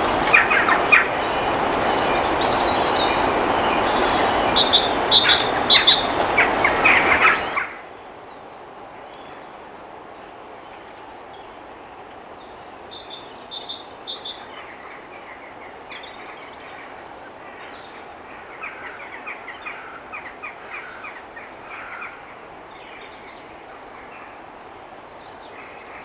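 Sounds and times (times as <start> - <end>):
small birds calling: 0.0 - 8.5, 11.0 - 26.0
steady background hiss: 0.0 - 26.0.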